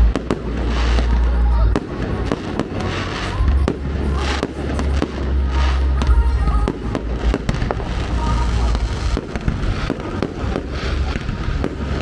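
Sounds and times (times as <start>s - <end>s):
deep rumbling booms: 0.0s - 12.0s
fireworks bangs: 0.0s - 12.0s.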